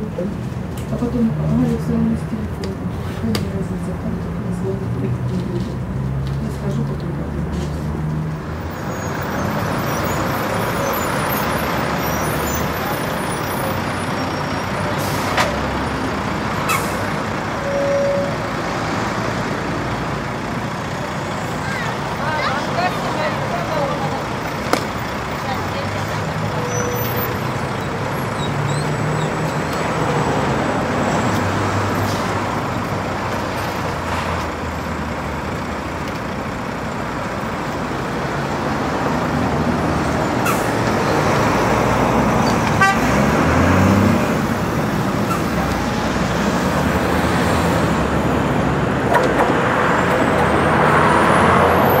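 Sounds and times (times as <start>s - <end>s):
vehicle engines passing: 0.0s - 52.0s
tram high whine: 8.3s - 52.0s.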